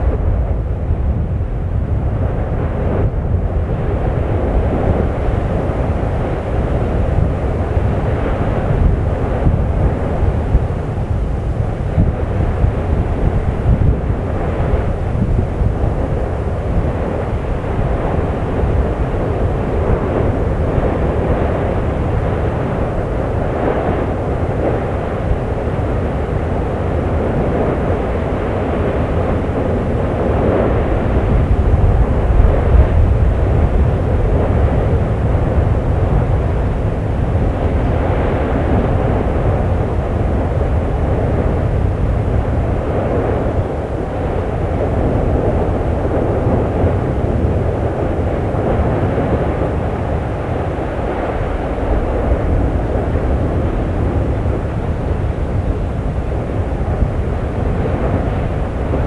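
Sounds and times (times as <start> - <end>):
volcano roaring: 0.0 - 59.0.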